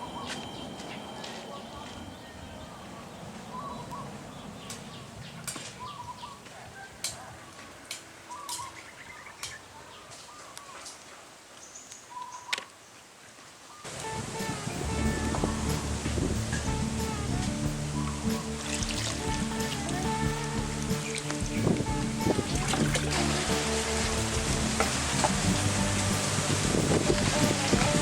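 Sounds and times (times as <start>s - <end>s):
birds chirping: 0.0s - 11.0s, 11.6s - 13.0s, 13.7s - 28.0s
outdoor background noise: 0.0s - 28.0s.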